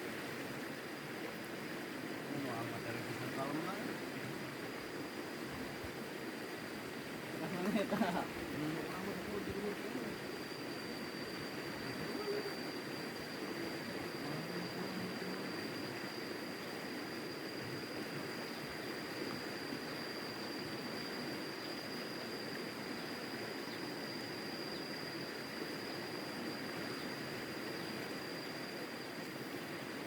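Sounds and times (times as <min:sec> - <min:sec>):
river water rushing: 0:00.0 - 0:30.0
thin high whine: 0:02.2 - 0:30.0.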